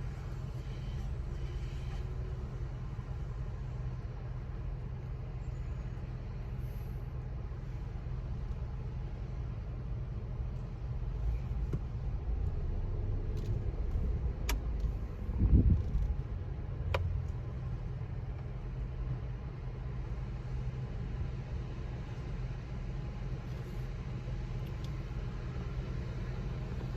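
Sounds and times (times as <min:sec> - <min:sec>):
low rumble at car wash: 0:00.0 - 0:26.9.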